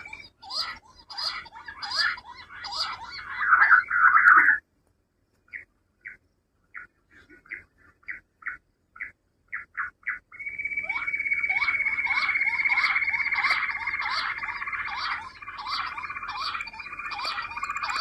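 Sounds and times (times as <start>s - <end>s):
quail calling: 0.0s - 4.6s, 6.7s - 18.0s.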